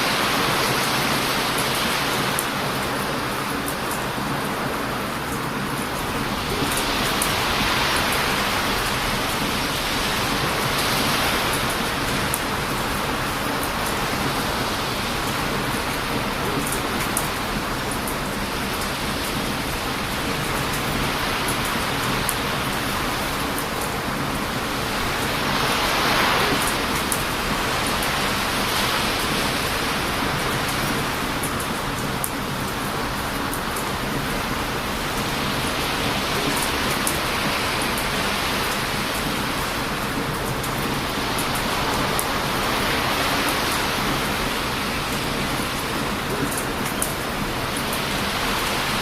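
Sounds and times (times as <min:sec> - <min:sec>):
heavy surf washing onto beach: 0:00.0 - 0:49.0
ocean waves breaking: 0:00.0 - 0:49.0.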